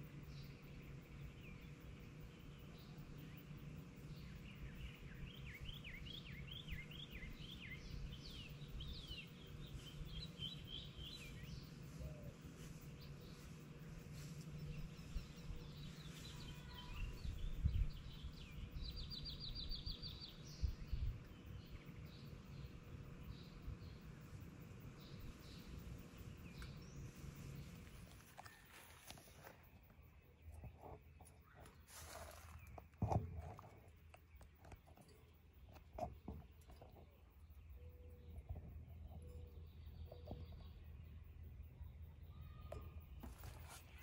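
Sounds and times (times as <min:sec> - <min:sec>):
birds chirping and trilling: 0:00.0 - 0:44.0
faint outdoor rumble: 0:00.0 - 0:44.0.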